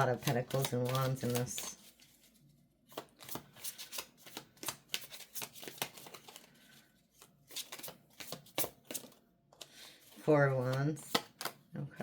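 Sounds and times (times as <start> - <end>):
cards being shuffled: 0.0 - 11.6.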